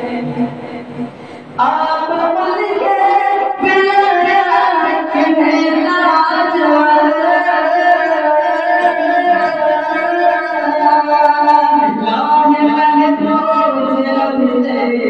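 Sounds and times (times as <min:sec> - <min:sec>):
man singing into a microphone: 0:01.6 - 0:15.0.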